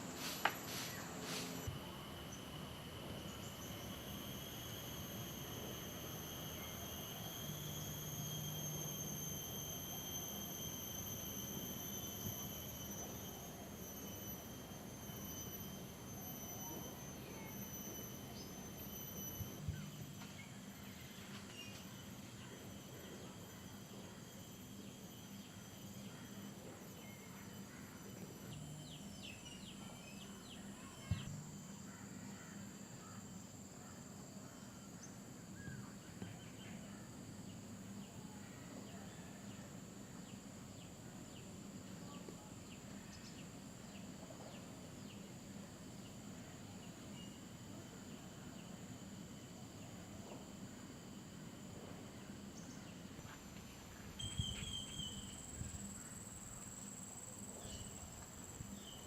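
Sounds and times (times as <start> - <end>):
high-pitched insect drone: 0.0 - 59.0
short insect chirps: 0.0 - 59.0.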